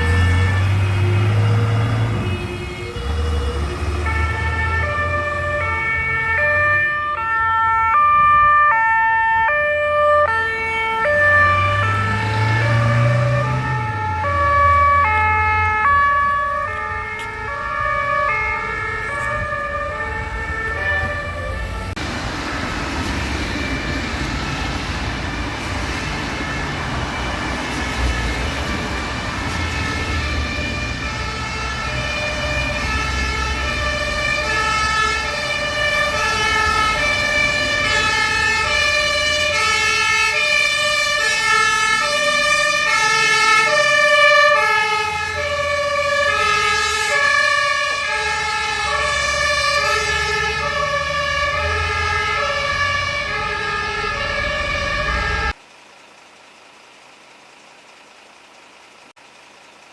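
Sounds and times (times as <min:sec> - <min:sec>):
two-tone fire engine sirens: 0:00.0 - 0:55.6
truck engines running: 0:00.0 - 0:59.9.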